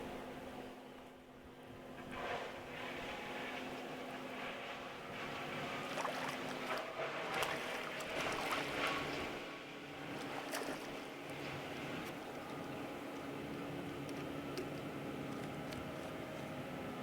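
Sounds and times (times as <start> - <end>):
distant wood chipper drone: 0.0 - 17.0.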